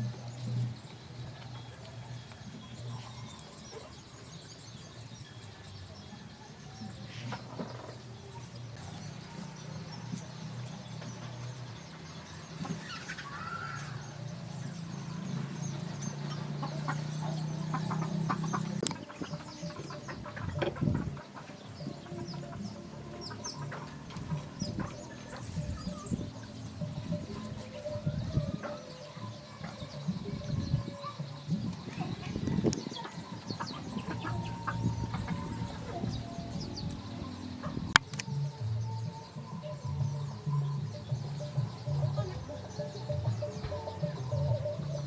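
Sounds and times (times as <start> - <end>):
chickens clucking: 6.8 - 38.6, 39.3 - 45.0.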